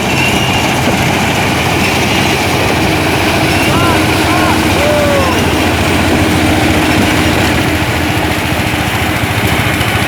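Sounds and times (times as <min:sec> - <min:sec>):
harvester engine running: 0:00.0 - 0:10.0.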